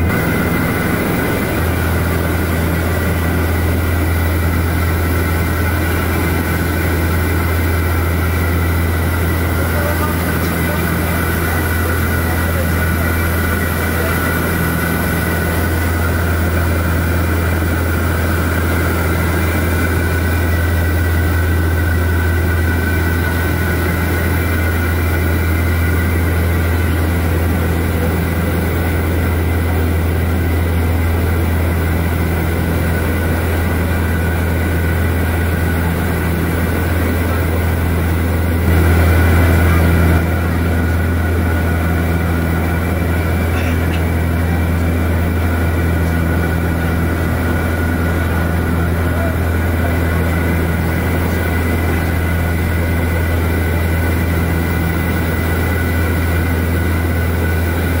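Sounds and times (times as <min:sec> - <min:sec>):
turboprop engines droning in cabin: 0:00.0 - 0:58.0.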